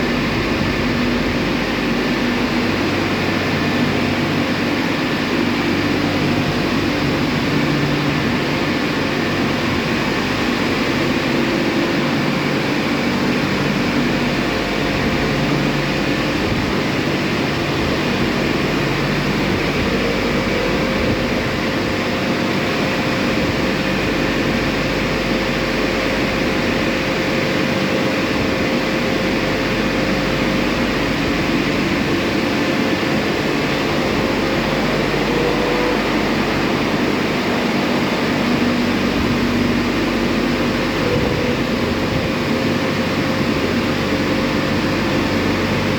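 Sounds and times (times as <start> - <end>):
car wash blowers rushing air: 0.0 - 45.9.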